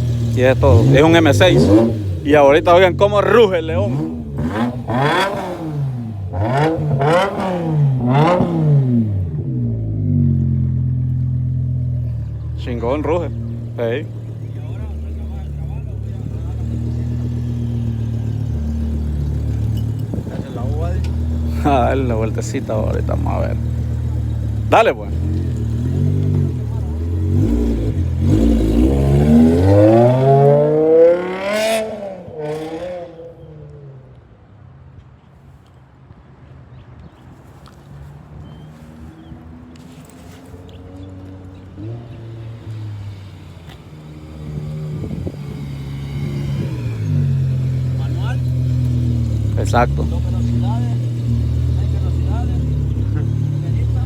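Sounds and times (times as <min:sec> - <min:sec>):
car engine idling: 0:00.0 - 0:30.4, 0:41.0 - 0:54.0
exhaust crackle: 0:00.0 - 0:31.4, 0:39.7 - 0:54.0
car engine revving: 0:00.0 - 0:34.1, 0:38.6 - 0:54.0.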